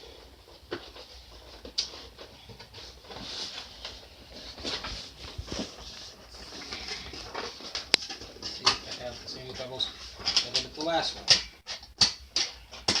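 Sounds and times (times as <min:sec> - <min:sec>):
packaging rustling: 0:00.2 - 0:11.2.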